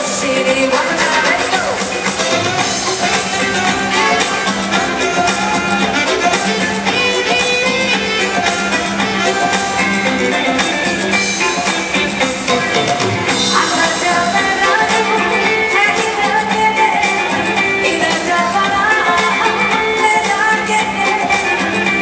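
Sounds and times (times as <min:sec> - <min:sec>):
woman singing: 0:00.0 - 0:11.6, 0:12.4 - 0:22.0
live pop band playing: 0:00.0 - 0:22.0.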